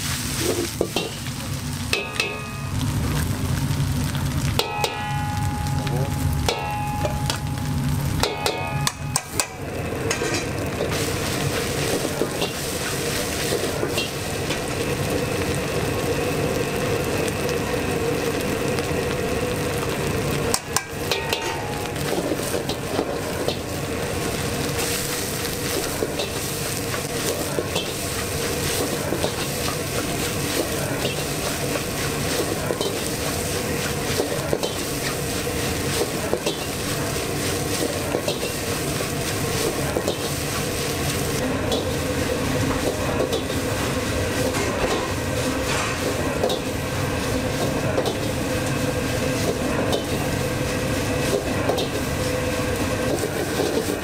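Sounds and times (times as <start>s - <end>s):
rice sizzling in a wok: 0.0s - 54.0s.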